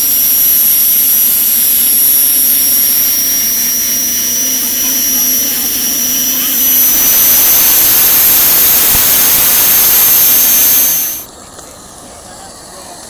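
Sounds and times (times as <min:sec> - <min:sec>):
steam turbine whine: 0:00.0 - 0:11.3.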